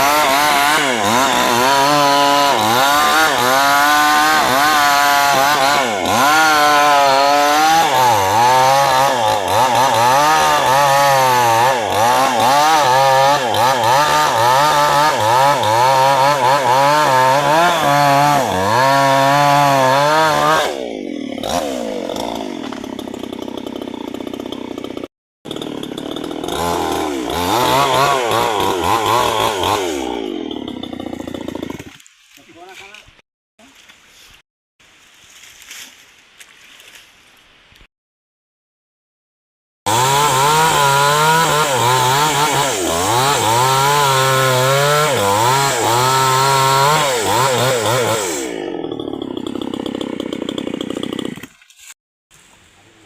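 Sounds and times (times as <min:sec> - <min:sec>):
chainsaw cutting wood: 0:00.0 - 0:33.0, 0:39.9 - 0:52.0.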